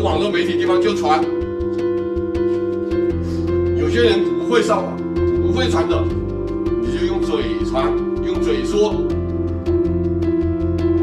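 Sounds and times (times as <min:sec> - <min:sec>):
background music with fast pulse: 0:00.0 - 0:11.0.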